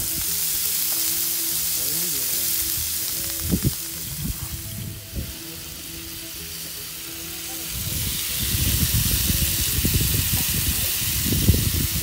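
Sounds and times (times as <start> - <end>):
hot dogs sizzling on a griddle: 0.0 - 12.0.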